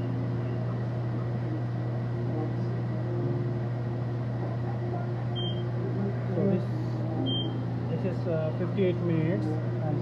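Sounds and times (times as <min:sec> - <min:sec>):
oven and ventilation hum: 0:00.0 - 0:10.0.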